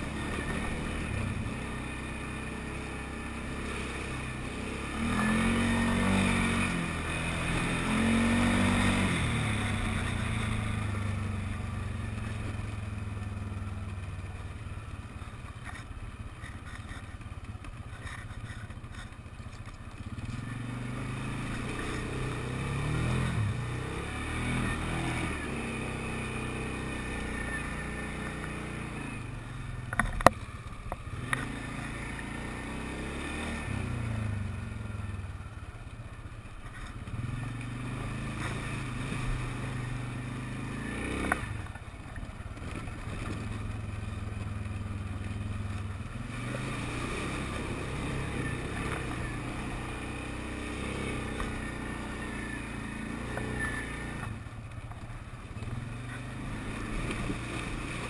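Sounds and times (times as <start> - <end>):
quad engine revving: 0.0 - 13.6, 20.0 - 30.4, 31.0 - 35.6, 36.6 - 54.8, 55.4 - 58.0.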